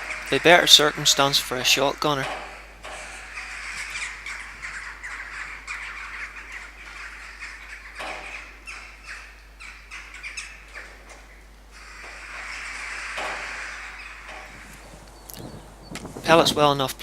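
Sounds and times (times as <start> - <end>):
crows squawking in alarm: 0.0 - 16.8.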